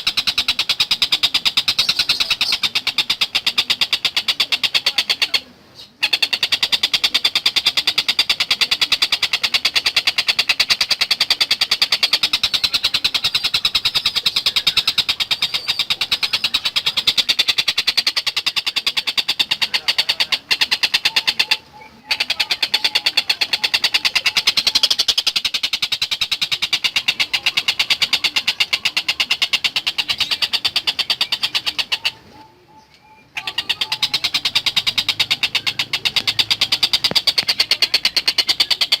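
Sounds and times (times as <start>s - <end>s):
bird rattling chatter: 6.1s - 32.3s, 33.4s - 39.0s.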